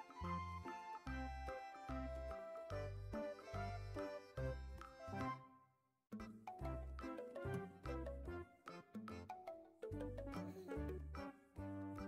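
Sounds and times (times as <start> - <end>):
light instrumental music: 0.0 - 5.6, 6.2 - 12.0.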